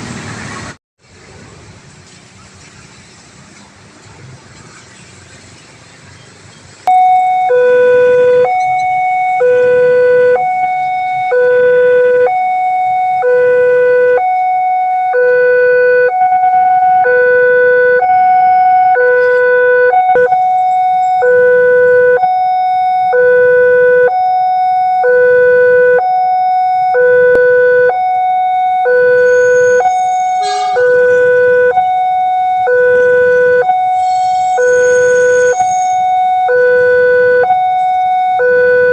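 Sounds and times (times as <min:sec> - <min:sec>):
level-crossing two-tone alarm: 0:06.9 - 0:38.9.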